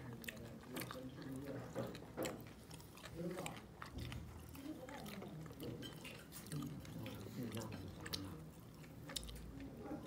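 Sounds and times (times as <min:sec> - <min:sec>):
soft chewing with smacks: 0:00.0 - 0:10.0.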